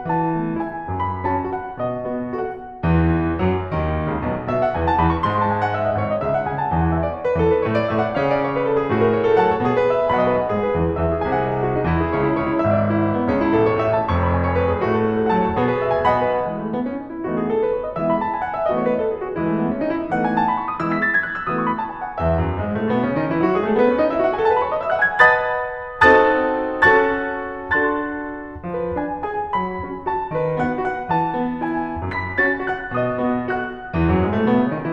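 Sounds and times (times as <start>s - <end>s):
piano music: 0.0s - 34.9s.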